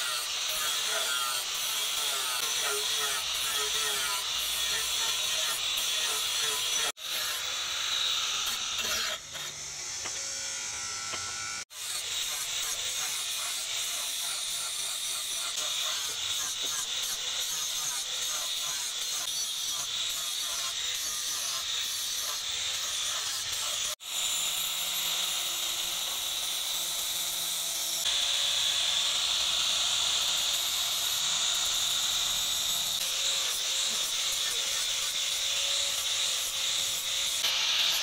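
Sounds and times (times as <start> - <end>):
angle grinder grinding metal: 0.0 - 38.0.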